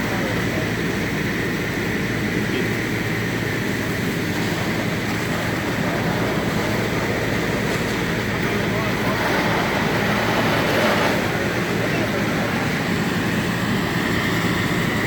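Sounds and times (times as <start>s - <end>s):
machinery rumble with high whine: 0.0s - 15.0s.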